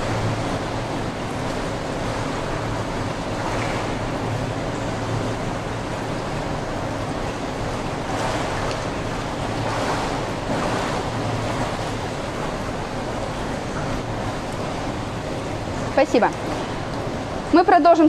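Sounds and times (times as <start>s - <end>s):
water splashing from kicking: 0.0s - 17.5s.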